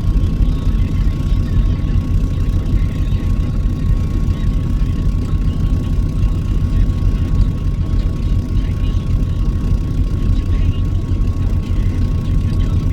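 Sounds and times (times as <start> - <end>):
faint steady whine: 0.0 - 12.9
truck engine rumble: 0.0 - 12.9.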